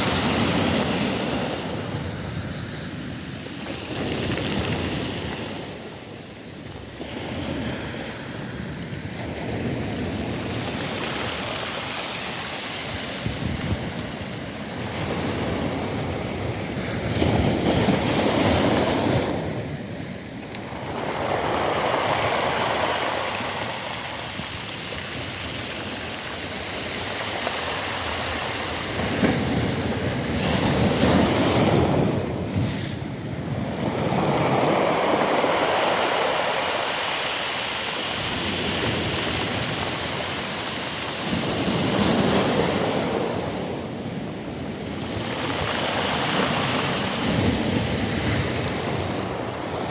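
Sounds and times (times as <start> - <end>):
waves breaking on pebble beach: 0.0 - 49.9.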